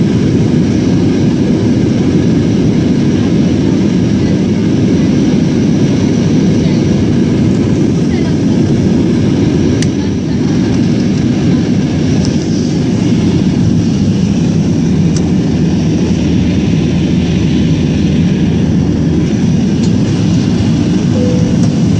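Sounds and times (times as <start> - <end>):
jet engine rumble in cabin: 0.0 - 21.9.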